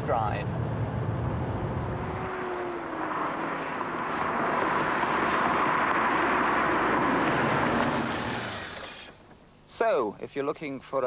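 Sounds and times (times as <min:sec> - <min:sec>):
car engine at high speed: 0:00.0 - 0:09.2
wind and tyre rush: 0:00.0 - 0:09.2.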